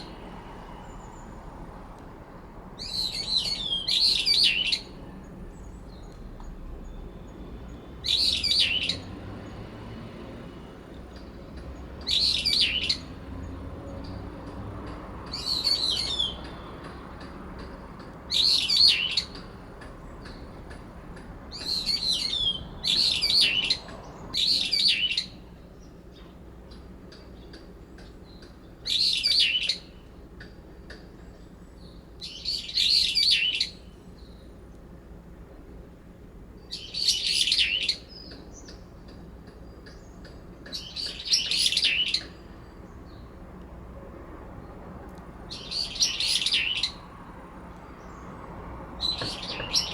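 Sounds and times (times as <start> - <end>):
birds calling harshly: 2.8 - 6.2, 6.8 - 9.7, 11.1 - 14.4, 15.2 - 34.7, 36.6 - 43.4, 45.5 - 49.9.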